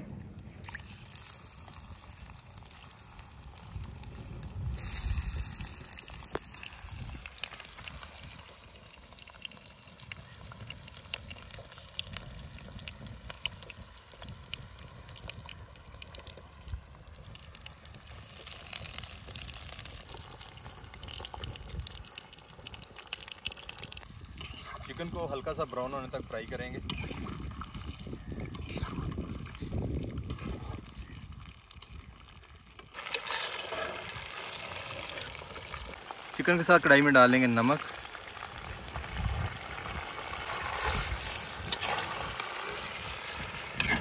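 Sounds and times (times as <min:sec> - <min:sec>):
chicken frying in hot oil: 0:00.6 - 0:44.0.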